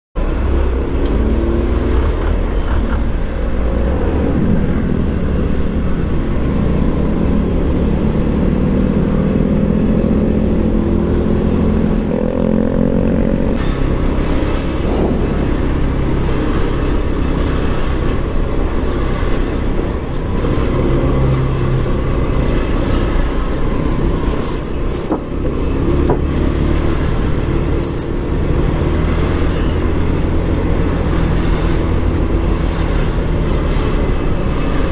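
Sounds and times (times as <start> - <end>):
motorbike engine running: 1.9 - 34.9.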